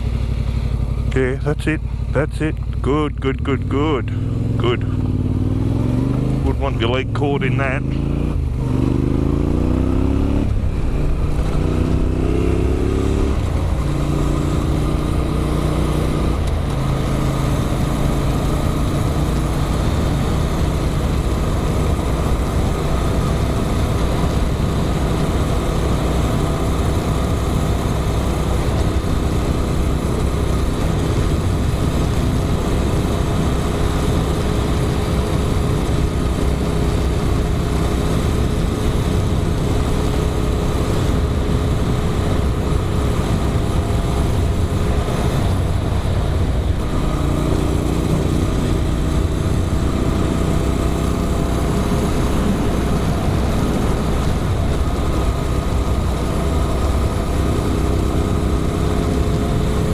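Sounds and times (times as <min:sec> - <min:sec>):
motorcycle accelerating through gears: 0:00.0 - 0:01.2, 0:01.8 - 0:59.9.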